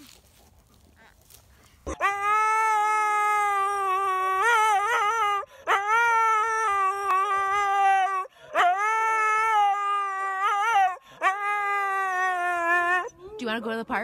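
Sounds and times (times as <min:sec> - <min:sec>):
dog howling: 0:02.0 - 0:13.4.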